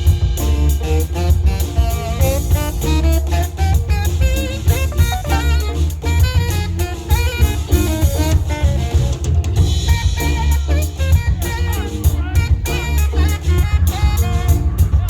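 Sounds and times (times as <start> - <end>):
drum kit groove: 0.0 - 15.0
electric bass: 0.0 - 15.0
guitar: 0.0 - 15.0
keyboard lines: 0.0 - 15.0.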